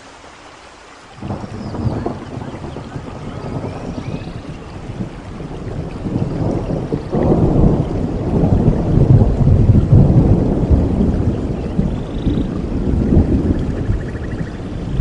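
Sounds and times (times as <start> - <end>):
steady rain: 0.0 - 15.0
thunder rumbling: 1.2 - 15.0.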